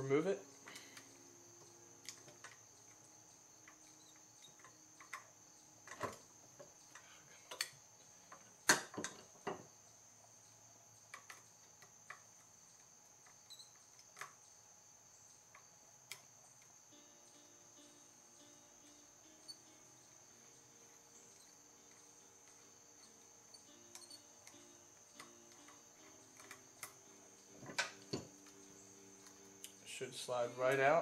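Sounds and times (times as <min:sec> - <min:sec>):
faint high whine: 0:00.0 - 0:31.0.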